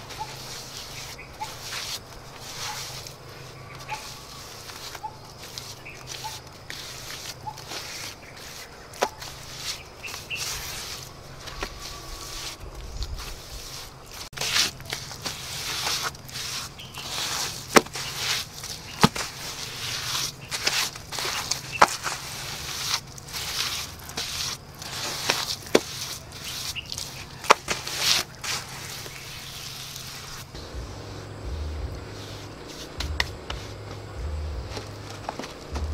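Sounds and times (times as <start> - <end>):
wet mortar scraping and squishing: 0.0 - 35.9.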